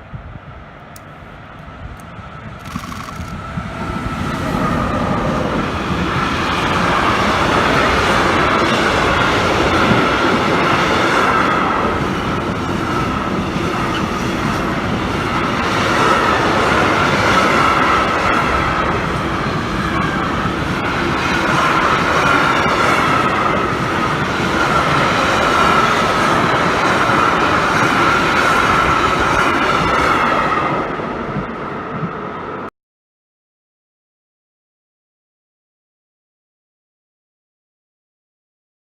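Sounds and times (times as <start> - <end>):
train wheels on rails: 0.0 - 32.7.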